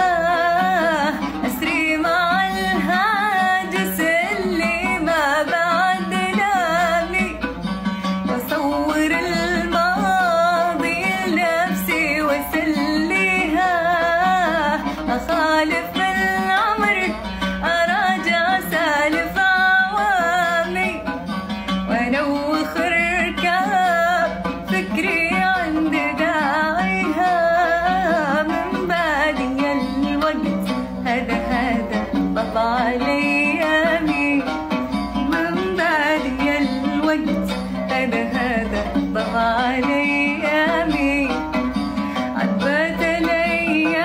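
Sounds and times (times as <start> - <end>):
plucked strings: 0.0 - 44.0
woman singing: 0.0 - 44.0.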